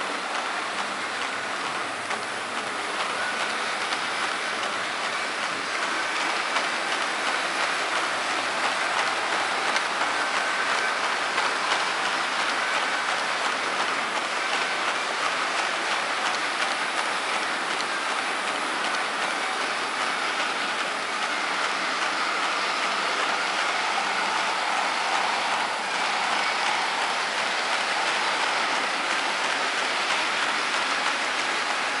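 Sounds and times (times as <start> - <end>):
model train wheels rolling: 0.0 - 32.0.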